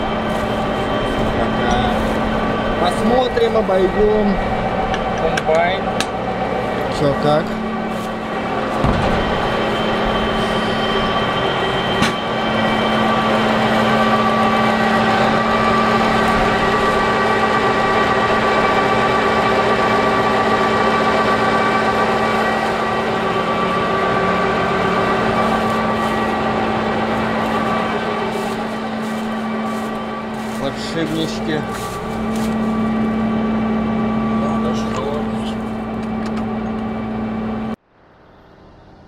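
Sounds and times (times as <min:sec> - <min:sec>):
combine harvester machine hum: 0:00.0 - 0:39.0.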